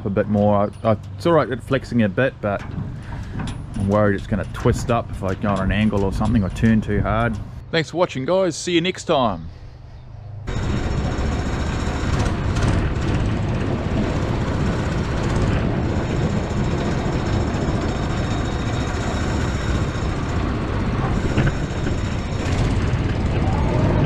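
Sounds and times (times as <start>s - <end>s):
engine running steadily: 0.0s - 7.8s, 8.4s - 24.0s.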